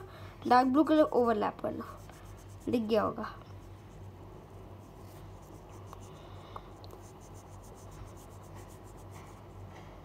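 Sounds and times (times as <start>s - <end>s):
low steady hum: 0.0s - 10.0s
pen scratching on paper: 0.7s - 6.2s, 6.9s - 9.7s.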